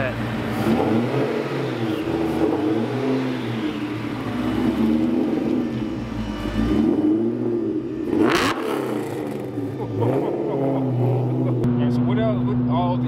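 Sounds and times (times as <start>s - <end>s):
car engine exhaust rumble: 0.0s - 13.0s.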